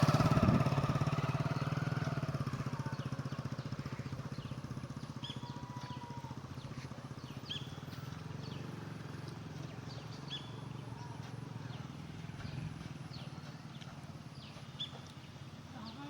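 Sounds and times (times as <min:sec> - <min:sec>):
small engine running: 0:00.0 - 0:16.0
bird chirping: 0:02.9 - 0:16.0.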